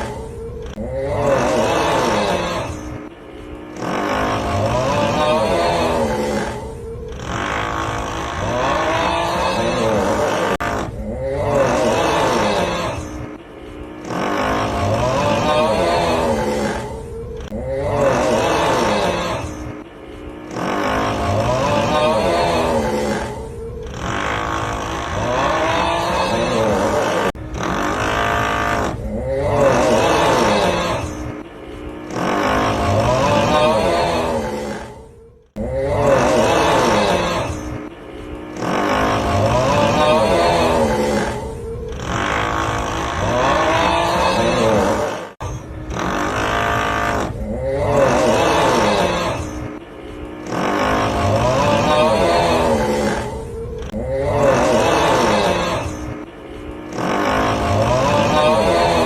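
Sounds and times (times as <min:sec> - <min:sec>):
steady drilling noise: 0:00.0 - 0:34.8, 0:35.8 - 0:53.3, 0:53.9 - 0:59.0
groaning snore: 0:00.0 - 0:59.0.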